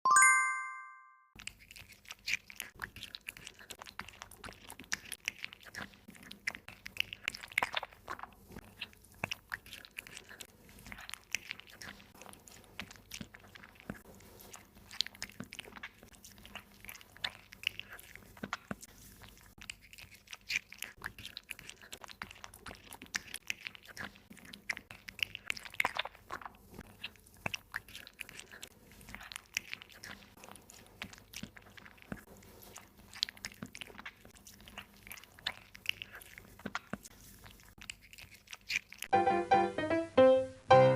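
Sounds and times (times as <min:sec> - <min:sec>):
cat chewing and crunching food: 0:01.3 - 0:39.1.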